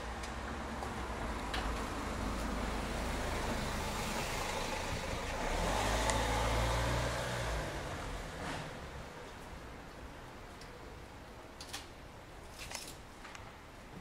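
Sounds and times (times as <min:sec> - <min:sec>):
vehicle engine rumble: 0:00.0 - 0:11.3
steady traffic noise: 0:00.0 - 0:14.0.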